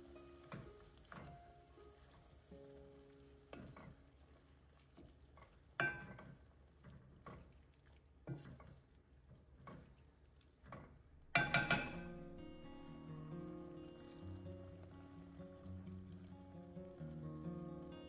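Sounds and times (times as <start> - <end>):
faint sizzle of frying: 0.0 - 18.0.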